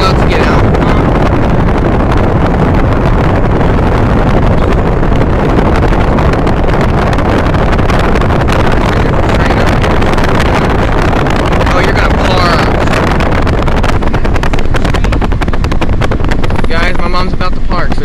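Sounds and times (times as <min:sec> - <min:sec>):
road and wind noise in car: 0:00.0 - 0:18.0
wind buffeting microphone: 0:00.0 - 0:18.0.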